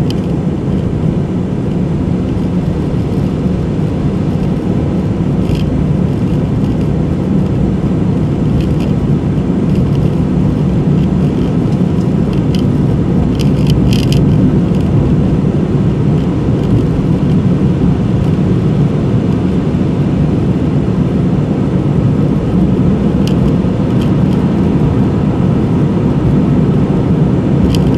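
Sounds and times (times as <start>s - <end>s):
car road and engine noise: 0.0s - 27.9s.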